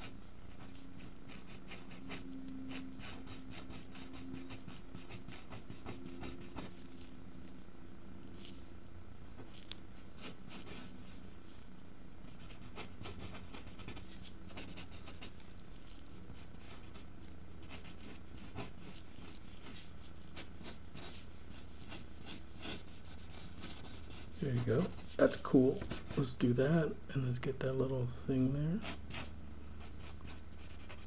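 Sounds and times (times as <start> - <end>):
pencil scratching on paper: 0.0 - 7.0, 9.3 - 11.4, 12.2 - 26.4, 28.8 - 31.0.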